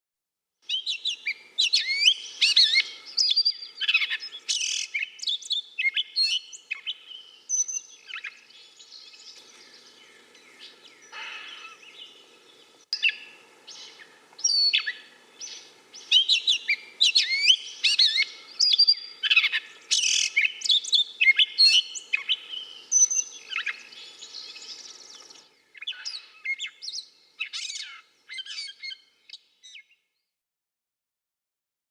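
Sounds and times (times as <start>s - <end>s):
bird singing varied phrases: 0.7s - 30.3s.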